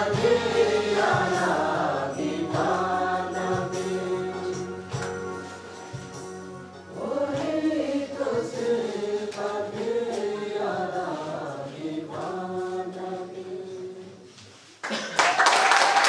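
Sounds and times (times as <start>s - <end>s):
mixed choir singing: 0.0s - 6.1s, 6.8s - 14.3s.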